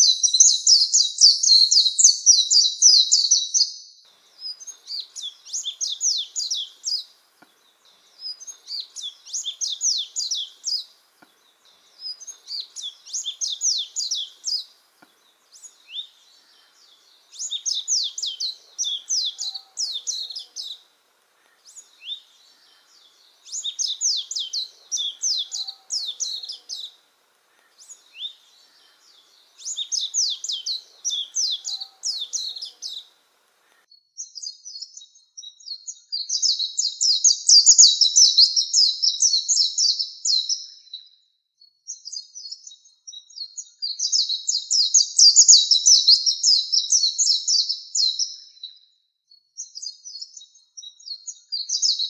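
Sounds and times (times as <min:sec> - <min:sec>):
bird twittering song: 0:00.0 - 0:41.1, 0:41.9 - 0:48.8, 0:49.6 - 0:52.0.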